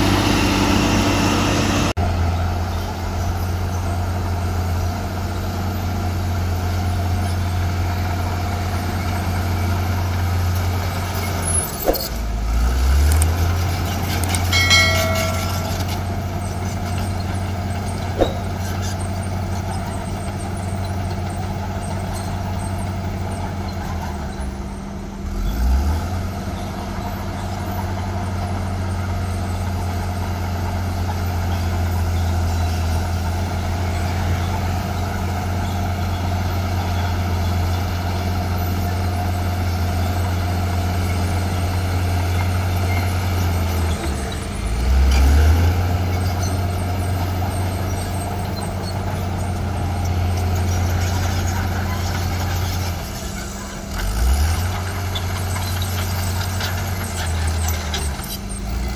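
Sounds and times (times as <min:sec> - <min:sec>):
bulldozer diesel engine under load: 0:00.0 - 0:58.9.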